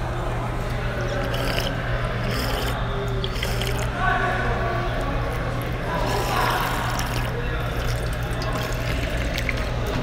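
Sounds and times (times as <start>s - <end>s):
steady low room hum: 0.0s - 10.0s.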